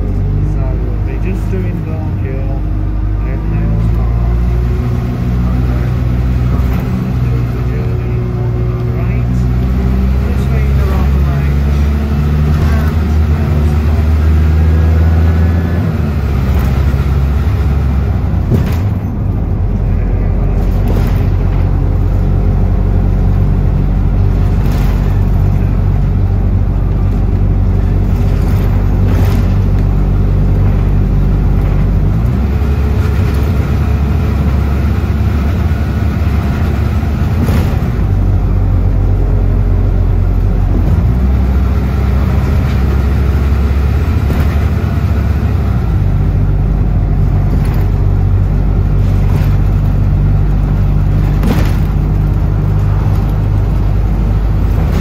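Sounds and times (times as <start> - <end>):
bus engine idling: 0.0 - 55.0
knocks and rattles: 5.4 - 55.0.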